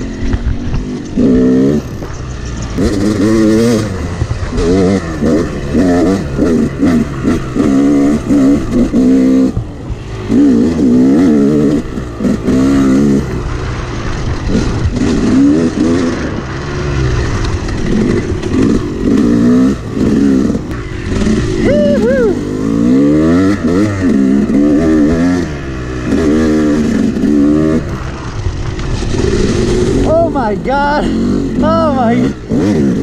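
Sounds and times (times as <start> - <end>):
dirt bike engine revving: 0.0 - 33.0
steady rushing noise: 0.0 - 33.0.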